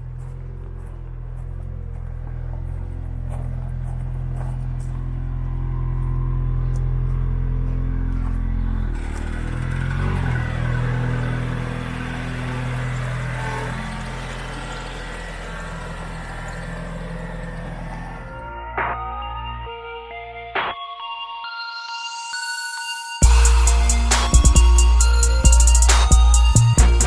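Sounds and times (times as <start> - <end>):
car engine running: 0.0 - 19.2, 23.2 - 27.0.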